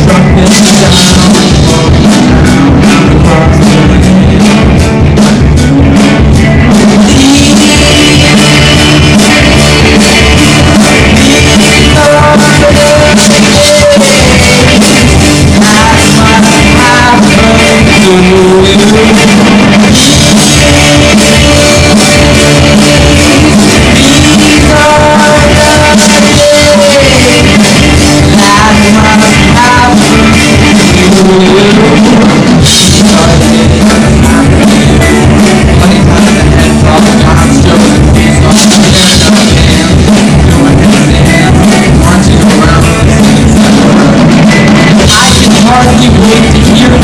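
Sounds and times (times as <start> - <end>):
live rock band playing: 0.0 - 47.0
person singing: 0.0 - 47.0.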